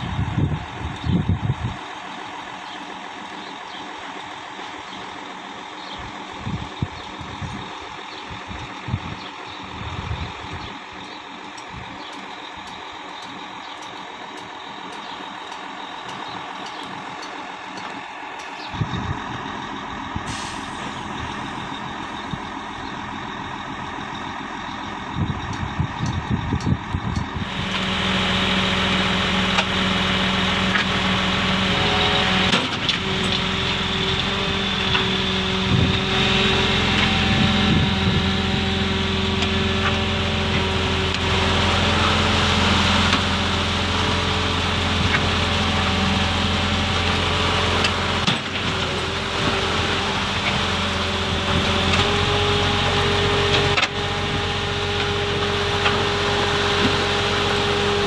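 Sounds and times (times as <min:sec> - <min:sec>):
diesel truck engines running: 0:00.0 - 0:58.0.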